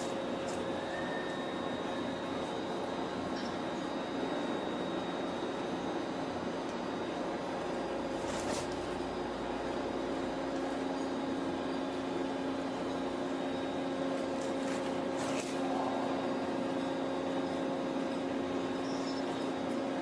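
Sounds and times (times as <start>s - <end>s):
machine humming and whirring: 0.0s - 20.0s.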